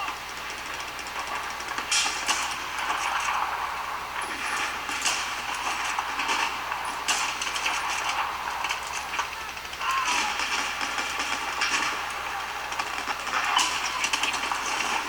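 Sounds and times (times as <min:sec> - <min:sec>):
laptop fans whooshing: 0:00.0 - 0:15.0.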